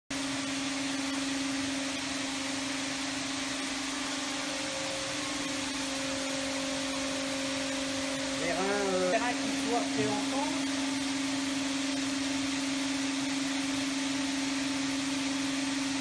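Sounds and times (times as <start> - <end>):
electric motor humming: 0.2 - 16.0.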